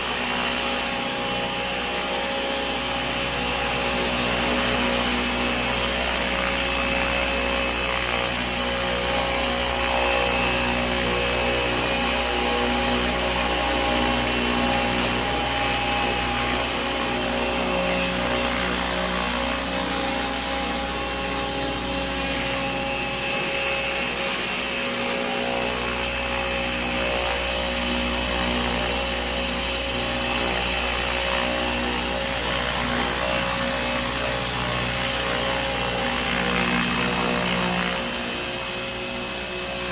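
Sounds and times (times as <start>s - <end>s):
rc helicopter whine and hum: 0.0s - 39.9s.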